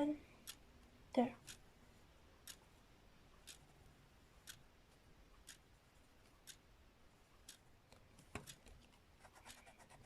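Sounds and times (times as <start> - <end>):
clock ticking faintly: 0.0 - 10.0.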